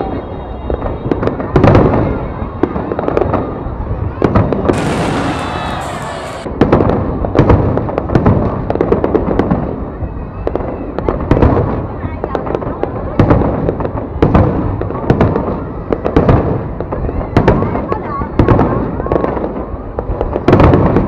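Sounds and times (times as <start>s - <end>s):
hissing crackle of fireworks: 0.2s - 21.0s
fireworks bangs and pops: 0.8s - 3.6s, 4.2s - 21.0s.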